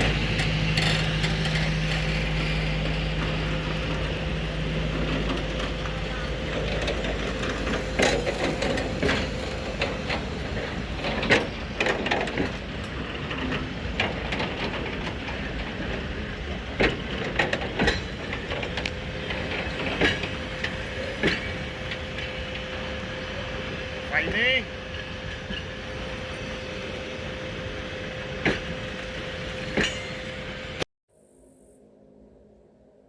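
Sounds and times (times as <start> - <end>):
train wagons rumbling: 0.0 - 30.8
wheels and couplings clanking: 0.0 - 30.8.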